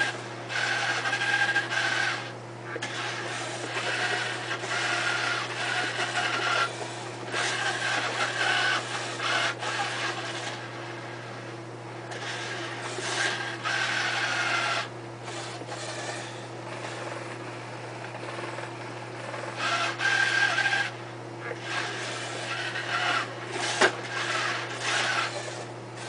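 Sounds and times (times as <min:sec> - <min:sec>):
robot joint motors whirring: 0:00.0 - 0:10.8, 0:12.1 - 0:17.4, 0:18.1 - 0:26.0
low electrical hum: 0:00.0 - 0:26.0.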